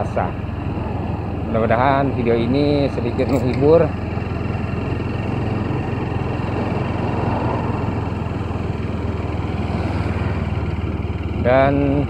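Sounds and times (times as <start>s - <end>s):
motorcycle engine cruising: 0.0s - 12.0s
road noise: 0.0s - 12.0s.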